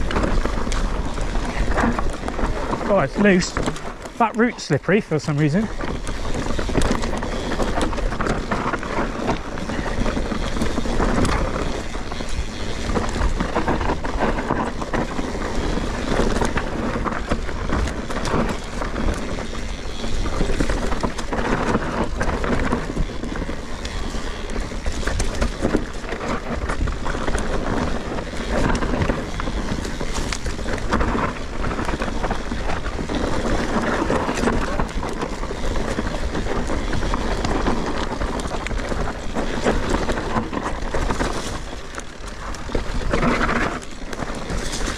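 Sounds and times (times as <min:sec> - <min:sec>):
bike knocking and rattling: 0:00.0 - 0:44.9
tyres rumbling on dirt: 0:00.0 - 0:44.9.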